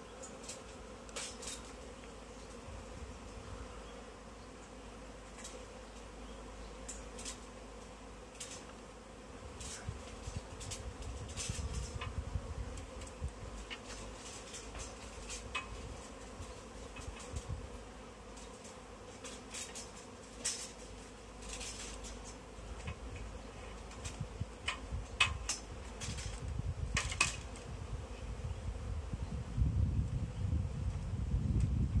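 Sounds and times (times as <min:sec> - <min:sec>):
bee swarm buzzing: 0:00.0 - 0:31.4.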